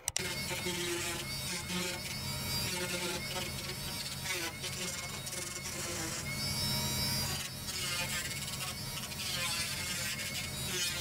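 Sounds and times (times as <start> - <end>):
rotary tool sanding plastic: 0.0 - 11.0.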